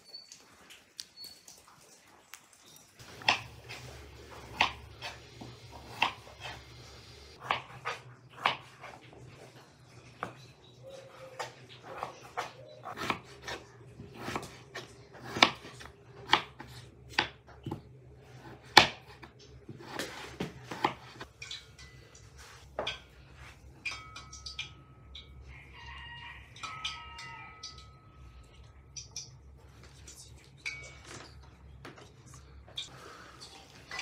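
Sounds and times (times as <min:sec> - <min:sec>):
kitchen utensils and dishes clinking: 0:02.6 - 0:34.0.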